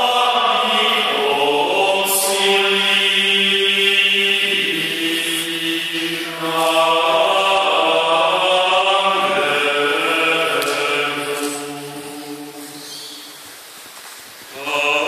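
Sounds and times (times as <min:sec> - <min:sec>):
male choir singing in harmony: 0:00.0 - 0:13.4, 0:14.5 - 0:15.0.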